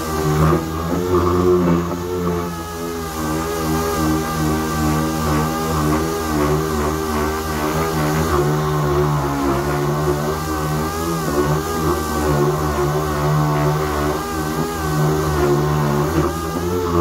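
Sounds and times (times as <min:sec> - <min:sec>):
air sander whining on metal: 0:00.0 - 0:17.0.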